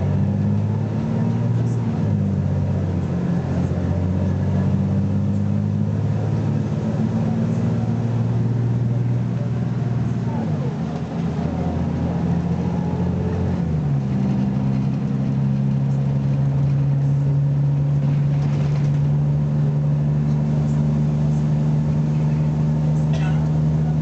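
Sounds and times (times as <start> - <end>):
bus engine pulling under load: 0.0 - 24.0.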